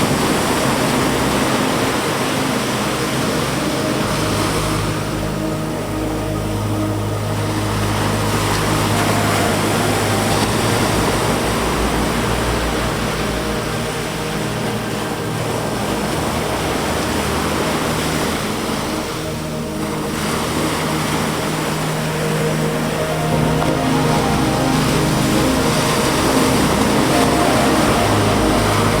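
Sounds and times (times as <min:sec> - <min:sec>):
ambient synth pad music: 0:00.0 - 0:29.0
ocean surf washing ashore: 0:00.0 - 0:29.0.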